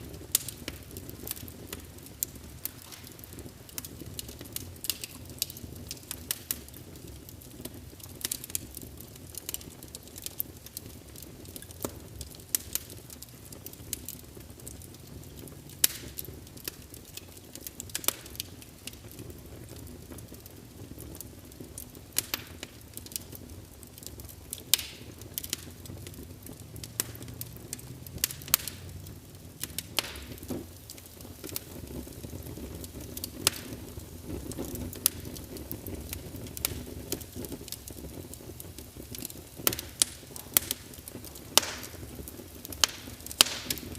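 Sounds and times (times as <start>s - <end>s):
log fire crackling: 0.0s - 43.9s
low rumble of burning wood: 0.0s - 43.9s.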